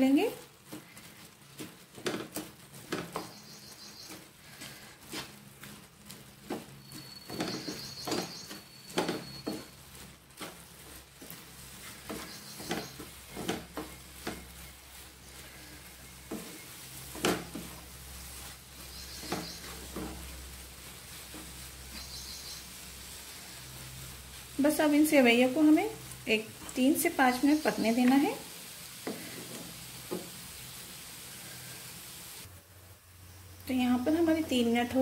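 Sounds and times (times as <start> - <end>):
wooden spatula scraping a pan: 0.0 - 32.5
light sizzle from pan: 0.0 - 35.0.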